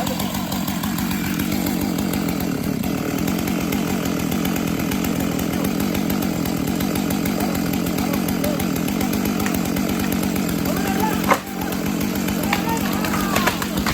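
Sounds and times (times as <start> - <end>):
chainsaw running steadily: 0.0 - 13.9.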